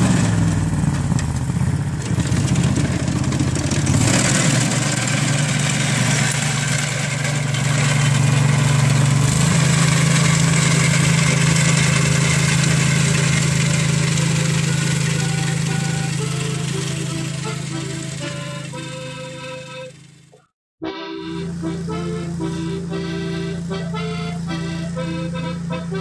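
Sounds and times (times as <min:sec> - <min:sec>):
tractor engine running under load: 0:00.0 - 0:26.0.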